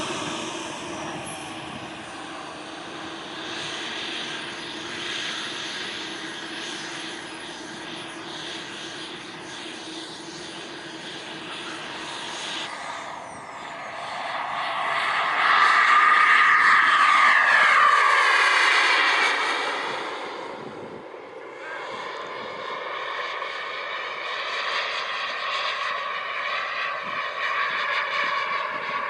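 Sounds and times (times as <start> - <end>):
model jet engine whine: 0.0 - 29.0.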